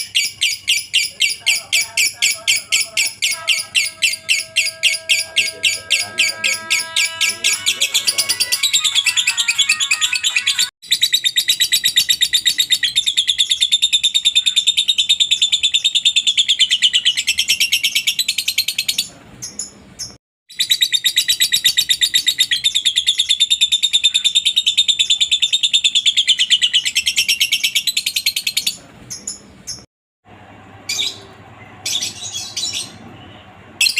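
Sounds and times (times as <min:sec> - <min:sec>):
lovebird chattering trill: 0:00.0 - 0:29.8.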